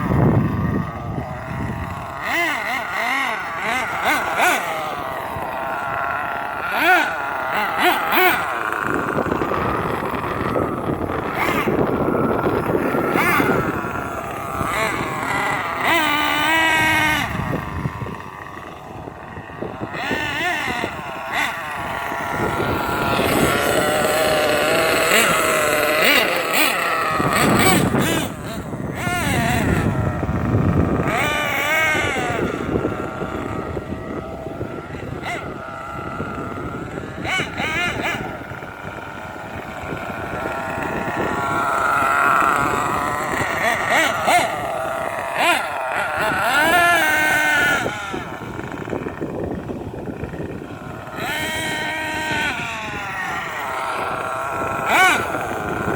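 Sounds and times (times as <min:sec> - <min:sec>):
rc truck motor whine: 0:00.0 - 0:55.9
wind buffeting microphone: 0:00.0 - 0:55.9.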